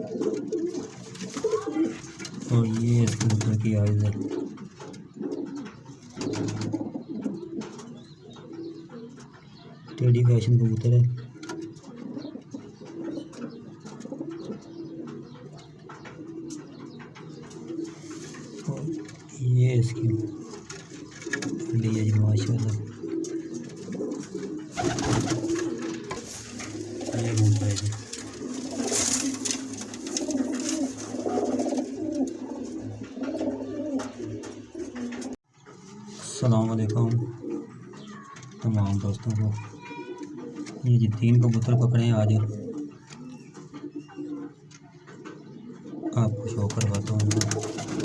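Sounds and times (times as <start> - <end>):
pigeons cooing: 0.0 - 48.0.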